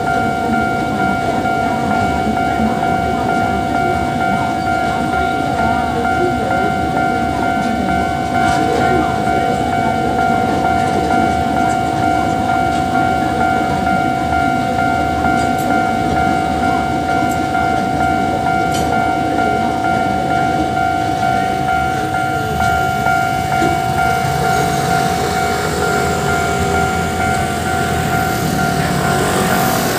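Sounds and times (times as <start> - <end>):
level-crossing warning tone: 0.0 - 29.9
train rumbling past: 0.0 - 29.9
wheels clicking on rails: 5.6 - 29.9.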